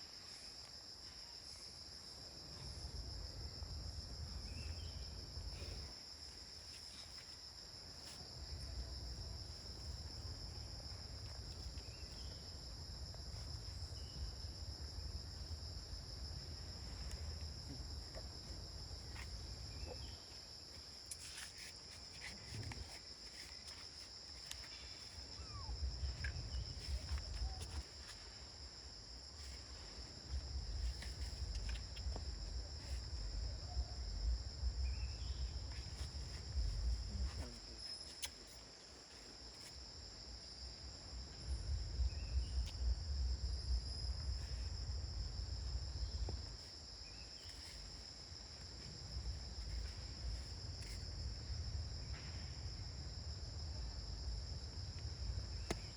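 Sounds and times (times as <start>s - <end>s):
insect chorus drone: 0.0s - 55.9s.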